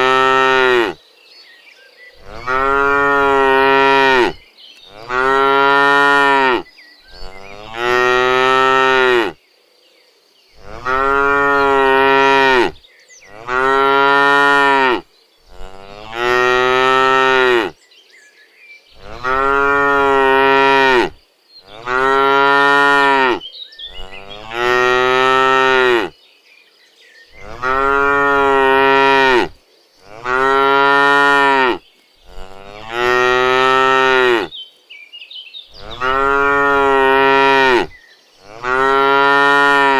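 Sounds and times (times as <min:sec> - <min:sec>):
cows mooing: 0:00.0 - 0:01.0, 0:02.2 - 0:09.4, 0:10.6 - 0:17.8, 0:19.0 - 0:26.1, 0:27.4 - 0:34.5, 0:35.8 - 0:39.9.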